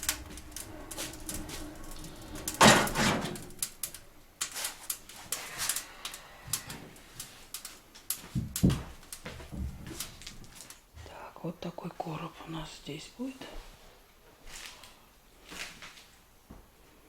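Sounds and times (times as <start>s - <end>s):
kindling crackling in fireplace: 0.0s - 17.0s.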